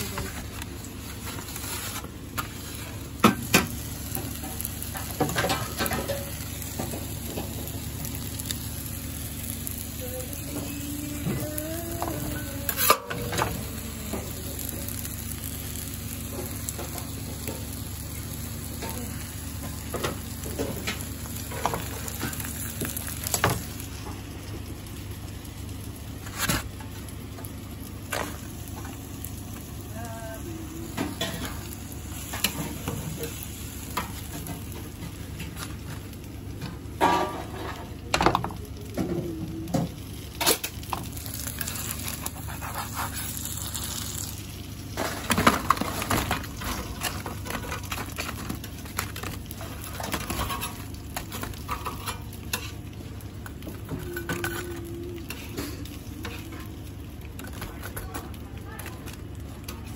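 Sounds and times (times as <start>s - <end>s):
food sizzling on a griddle: 0.0s - 59.9s.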